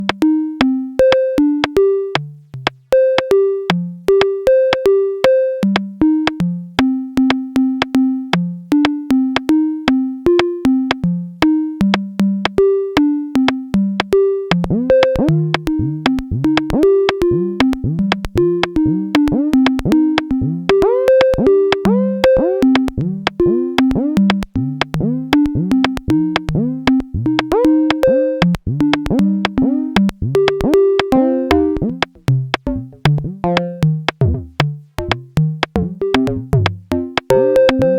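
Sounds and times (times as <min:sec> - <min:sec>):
clicking drum machine percussion: 0:00.0 - 0:04.9, 0:05.7 - 0:37.9
plucky synth melody: 0:00.0 - 0:37.9.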